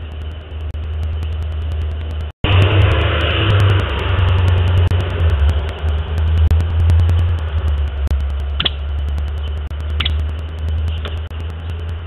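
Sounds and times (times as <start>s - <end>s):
faint regular ticking: 0.0s - 12.0s
low rumble: 0.0s - 12.0s.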